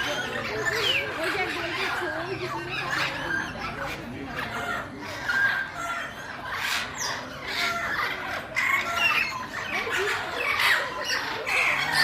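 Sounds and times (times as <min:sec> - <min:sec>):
parrots squawking and chattering: 0:00.0 - 0:12.0.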